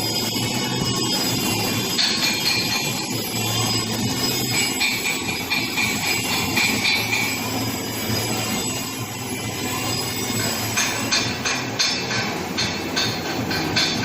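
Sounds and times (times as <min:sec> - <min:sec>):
welding arc buzzing hiss: 0:00.0 - 0:14.0.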